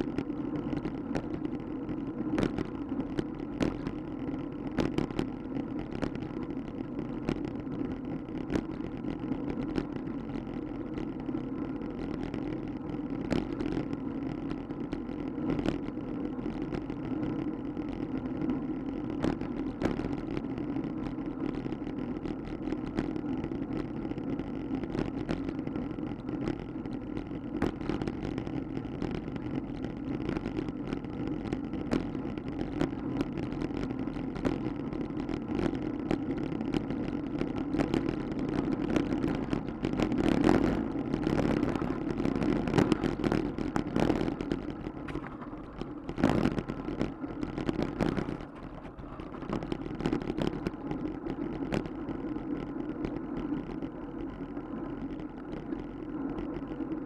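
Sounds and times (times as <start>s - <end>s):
bicycle rattling over bumps: 0.0s - 57.0s
bicycle rolling on pavement: 0.0s - 57.0s.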